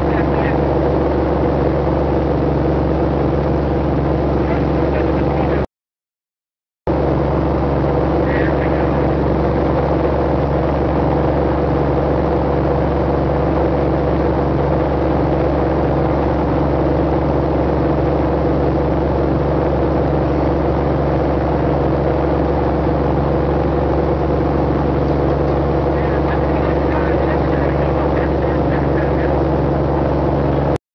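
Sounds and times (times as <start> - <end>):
speedboat engine drone: 0.0 - 5.7, 6.9 - 30.8.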